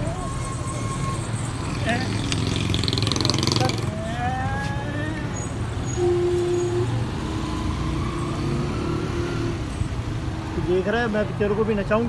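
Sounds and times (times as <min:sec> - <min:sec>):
car and motorbike engines rumbling: 0:00.0 - 0:12.0.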